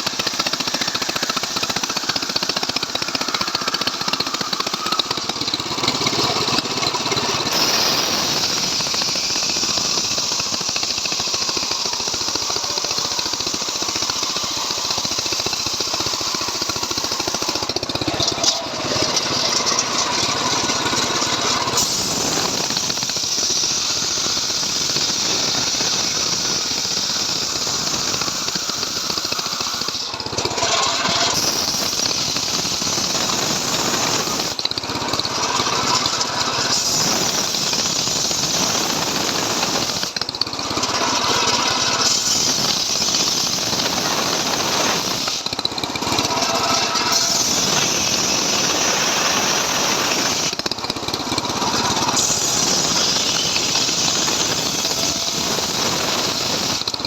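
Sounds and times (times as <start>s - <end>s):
chainsaw ripping through log: 0.0s - 57.0s.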